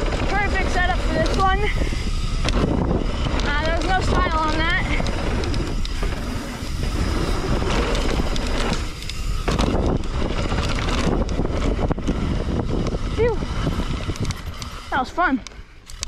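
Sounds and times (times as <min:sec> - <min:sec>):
bike rattles and knocks: 0:00.0 - 0:16.0
bike tyre roar: 0:00.0 - 0:16.0
wind rushing over microphone: 0:00.0 - 0:16.0.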